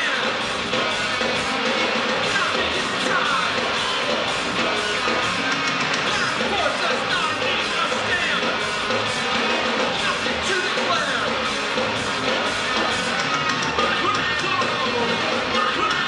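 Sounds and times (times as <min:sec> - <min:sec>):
noise rock band playing: 0:00.0 - 0:16.0.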